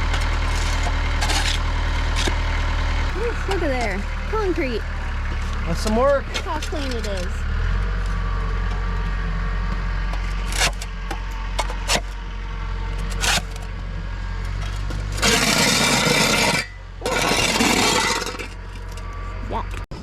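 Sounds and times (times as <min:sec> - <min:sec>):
loader bucket scraping concrete: 0:00.0 - 0:19.4
tractor engine running: 0:00.0 - 0:20.0.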